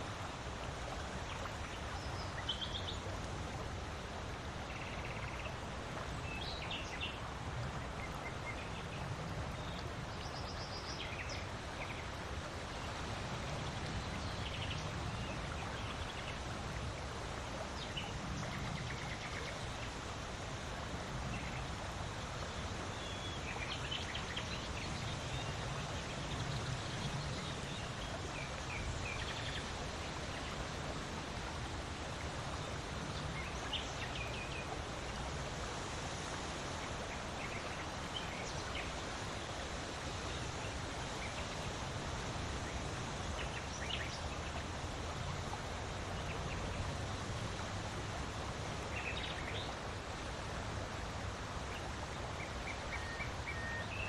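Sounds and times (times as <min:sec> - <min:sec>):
wind blowing with low rumble: 0:00.0 - 0:53.5.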